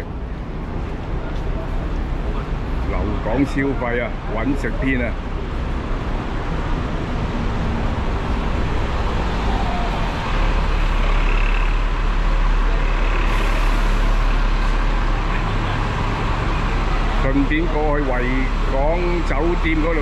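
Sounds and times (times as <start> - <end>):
bus engine rumble: 0.0 - 20.0
street traffic: 0.0 - 20.0.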